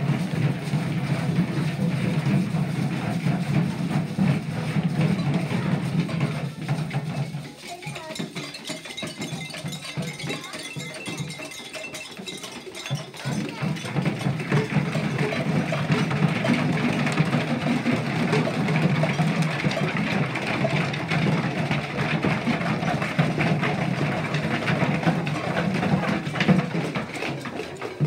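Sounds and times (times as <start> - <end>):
children beating homemade drums: 0.0 - 28.0.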